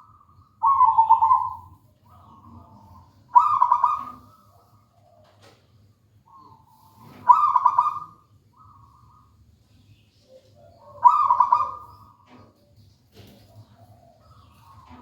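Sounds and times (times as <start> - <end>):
dove cooing: 0.0 - 9.4, 10.2 - 15.0.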